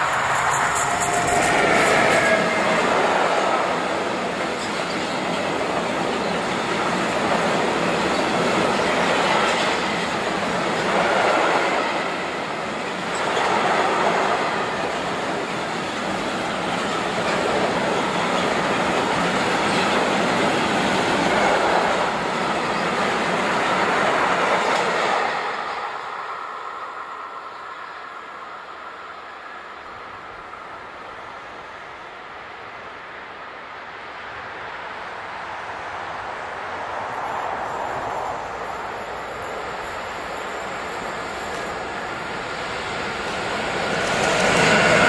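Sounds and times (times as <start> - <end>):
freight train wheels rumbling on rails: 0.0 - 45.0.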